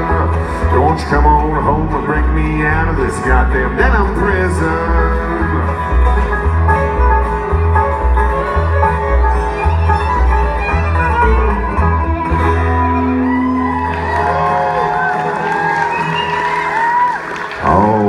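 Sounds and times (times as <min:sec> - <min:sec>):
upright bass pulsing: 0:00.0 - 0:15.5, 0:17.5 - 0:18.0
bluegrass band playing: 0:00.0 - 0:18.0.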